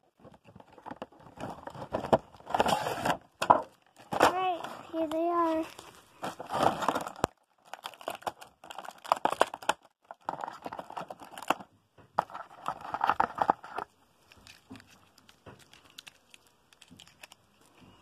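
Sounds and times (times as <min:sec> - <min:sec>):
plastic packaging crinkling: 0:00.2 - 0:17.9.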